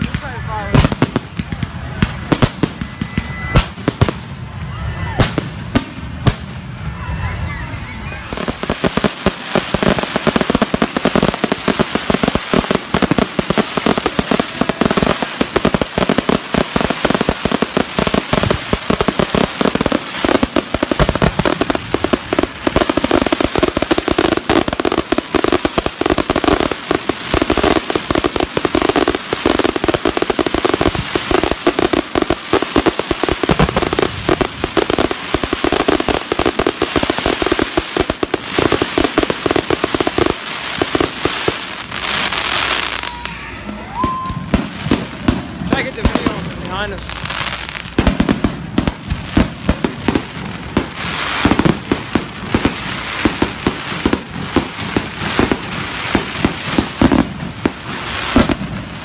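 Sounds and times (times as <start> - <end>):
crackling fireworks stars: 0.0 - 59.0
fireworks bangs: 0.0 - 59.0.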